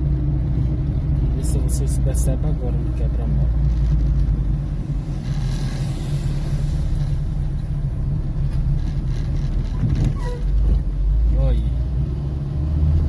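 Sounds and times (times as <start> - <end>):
car cabin engine and road rumble: 0.0 - 13.0.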